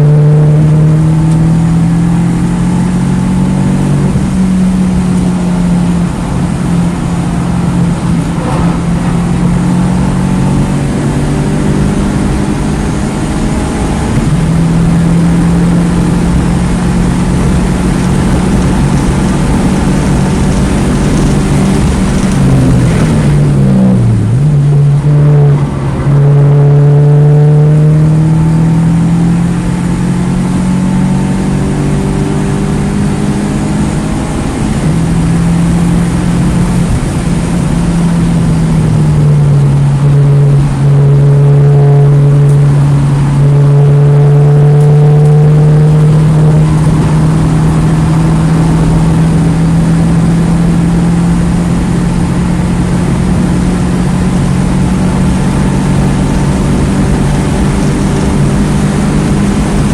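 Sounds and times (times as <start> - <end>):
car engine running hard: 0.0 - 59.9
road and wind noise: 0.0 - 59.9.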